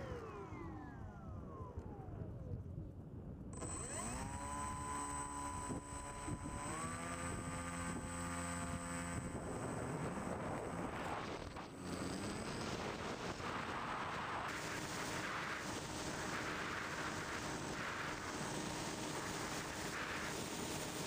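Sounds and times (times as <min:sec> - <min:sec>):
quadcopter motors whining: 0:00.0 - 0:02.6, 0:03.6 - 0:21.0.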